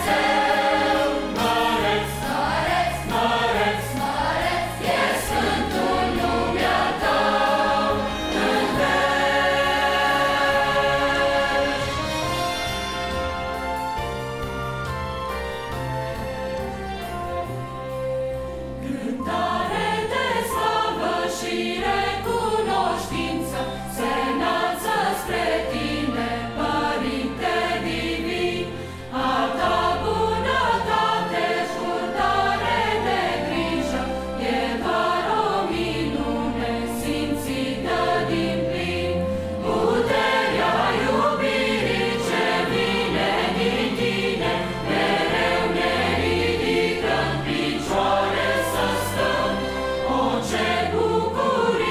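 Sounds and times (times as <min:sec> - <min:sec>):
children's choir singing a hymn: 0:00.0 - 0:12.8, 0:18.8 - 0:51.9
instrumental accompaniment with bass: 0:00.0 - 0:51.9.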